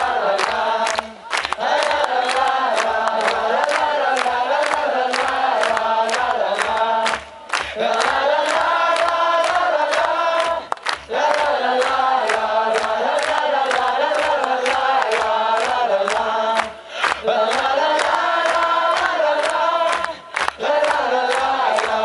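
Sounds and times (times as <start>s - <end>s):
audience clapping along: 0.0s - 22.0s.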